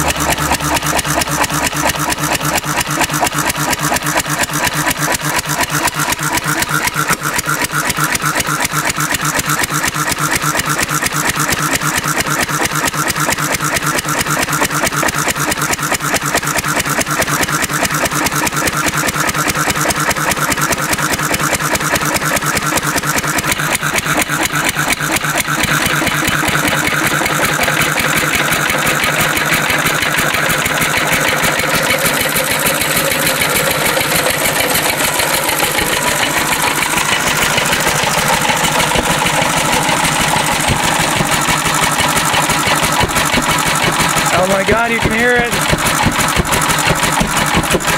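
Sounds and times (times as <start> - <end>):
stationary engine running: 0.0 - 47.9.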